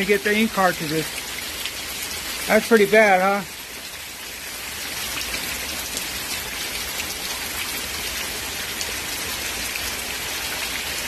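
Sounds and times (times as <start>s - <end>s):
heavy rain hissing on ground: 0.0s - 11.0s
raindrops ticking close by: 0.0s - 11.0s.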